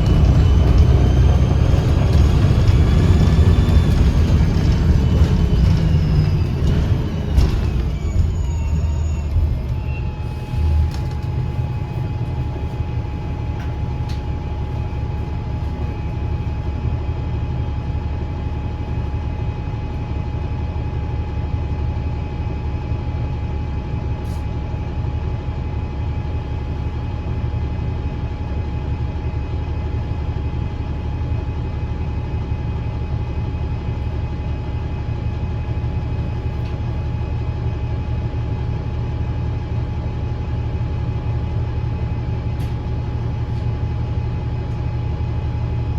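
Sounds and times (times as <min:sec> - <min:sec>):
bus engine rumble: 0:00.0 - 0:21.0, 0:23.2 - 0:45.9
thin transmission whine: 0:00.0 - 0:21.6, 0:29.9 - 0:45.9.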